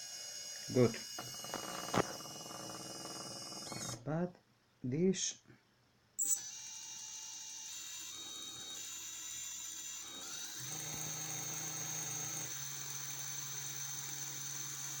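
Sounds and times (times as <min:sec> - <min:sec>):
electric motor whining: 0:00.0 - 0:04.0, 0:06.4 - 0:15.0.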